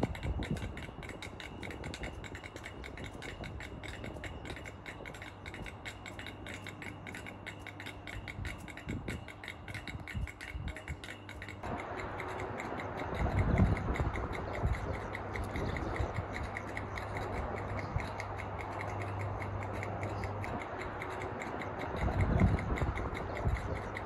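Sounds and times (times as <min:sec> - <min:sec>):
fast ticking buzz: 0:00.0 - 0:24.0.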